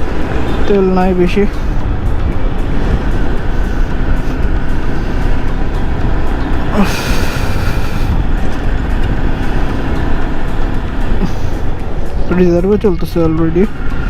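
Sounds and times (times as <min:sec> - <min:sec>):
motorcycle engine running: 0:00.0 - 0:14.0
wind rushing on microphone: 0:00.0 - 0:14.0.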